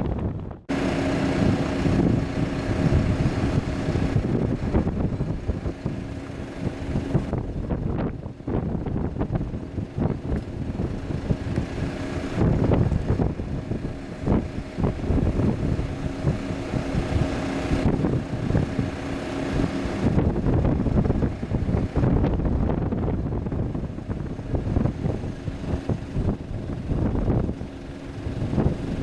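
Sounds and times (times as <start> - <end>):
jet engine hum: 0.0 - 29.0
wind buffeting microphone: 0.0 - 29.0.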